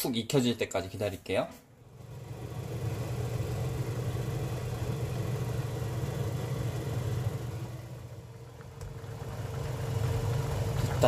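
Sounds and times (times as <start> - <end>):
induction cooktop fan hum: 0.0 - 11.0.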